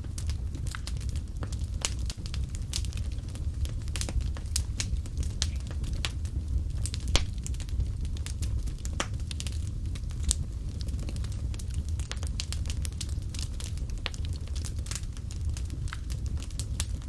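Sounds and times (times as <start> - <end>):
fire crackling and popping: 0.0 - 17.0
flames rumbling: 0.0 - 17.0.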